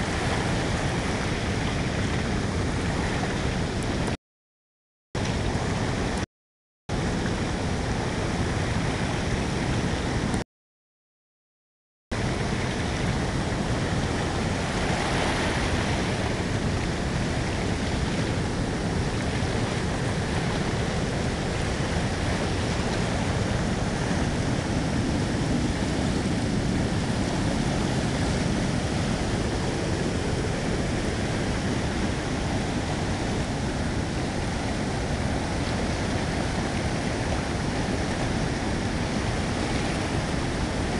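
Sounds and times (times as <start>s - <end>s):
river rushing over waterfall: 0.0s - 4.2s, 6.9s - 10.4s, 12.2s - 40.9s.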